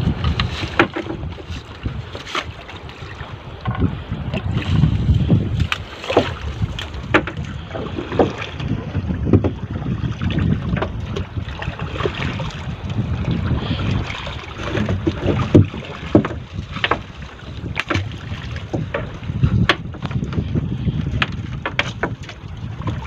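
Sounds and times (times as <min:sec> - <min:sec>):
water splashing against hull: 0:00.0 - 0:23.0
wind buffeting microphone: 0:00.0 - 0:23.0.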